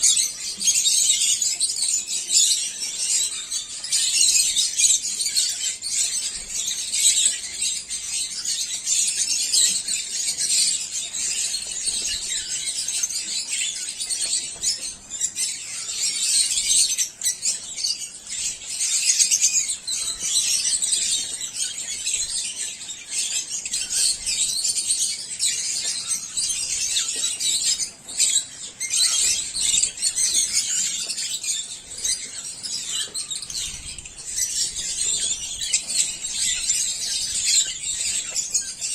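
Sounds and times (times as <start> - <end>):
flock of lovebirds chattering: 0.0 - 38.9.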